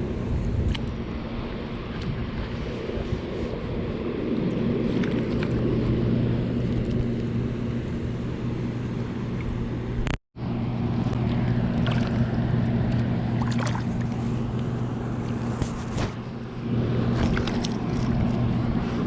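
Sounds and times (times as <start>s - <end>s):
boat motor humming: 0.0s - 19.0s
water noise: 0.0s - 19.0s
wind: 0.0s - 19.0s.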